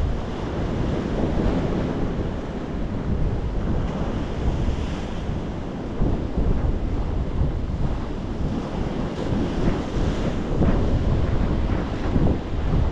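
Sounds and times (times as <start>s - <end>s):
sea surf washing over rocks: 0.0s - 12.9s
wind buffeting microphone: 0.0s - 12.9s.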